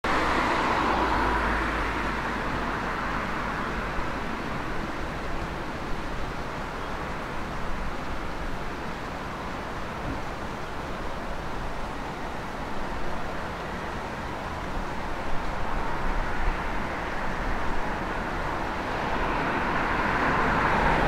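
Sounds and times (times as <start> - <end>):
vehicle noise: 0.0 - 21.0.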